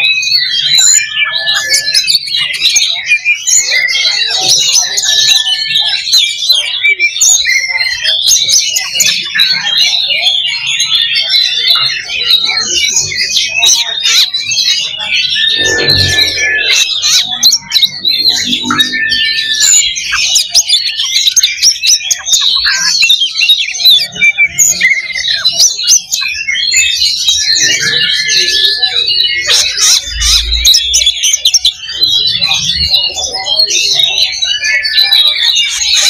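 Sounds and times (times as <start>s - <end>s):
songbirds chorus: 0.0s - 36.0s.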